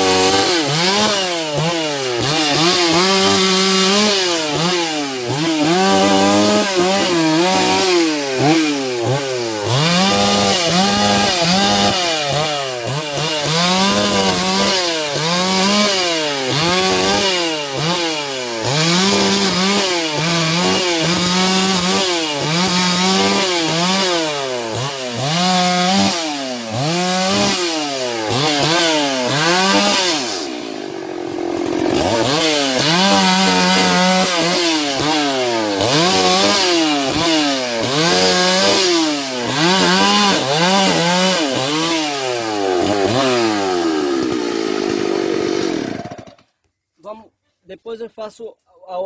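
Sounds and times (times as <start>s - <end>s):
chainsaw revving while cutting: 0.0s - 46.5s.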